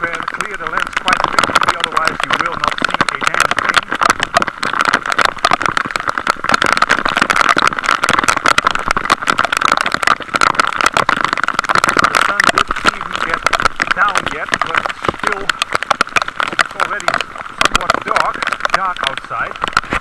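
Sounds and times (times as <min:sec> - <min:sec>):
raindrops striking microphone: 0:00.0 - 0:20.0
wind noise: 0:00.0 - 0:20.0.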